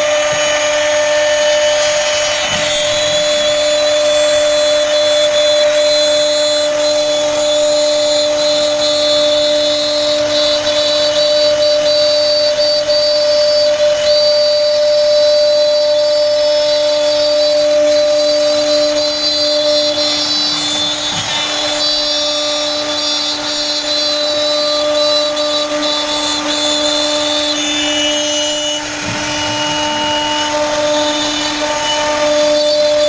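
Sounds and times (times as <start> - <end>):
router spindle high whine: 0.0 - 33.0.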